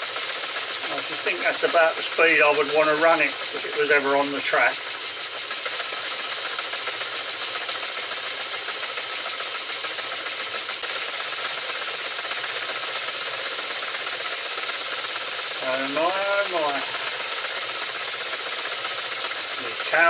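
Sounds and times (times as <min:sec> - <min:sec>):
light mechanical clatter: 0:00.0 - 0:20.0
model locomotive exhaust hiss: 0:00.0 - 0:20.0.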